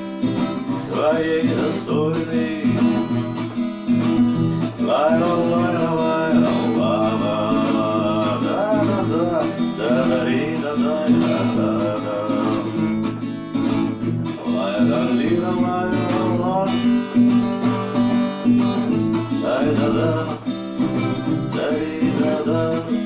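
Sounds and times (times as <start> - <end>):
guitar accompaniment: 0.0 - 23.0.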